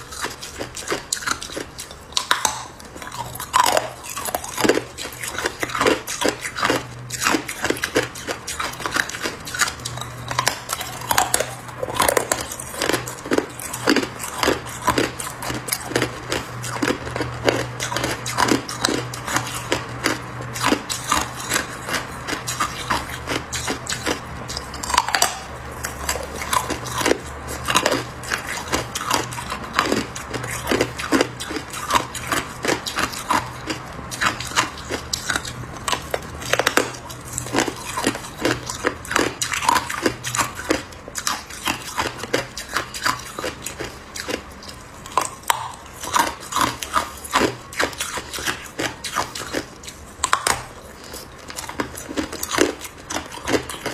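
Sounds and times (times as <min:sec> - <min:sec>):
person crunching ice: 0:00.0 - 0:53.9.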